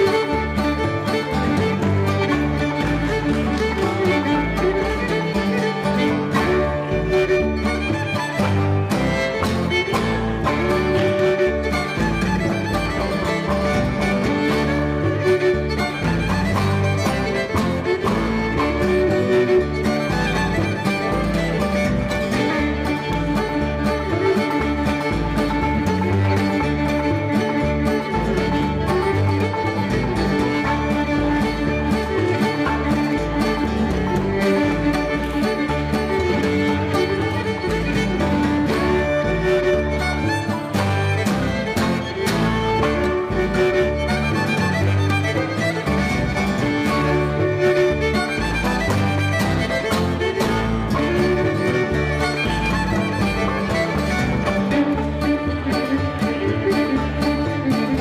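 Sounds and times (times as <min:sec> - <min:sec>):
string band playing fiddle tune: 0:00.0 - 0:58.0
upright bass: 0:00.0 - 0:58.0.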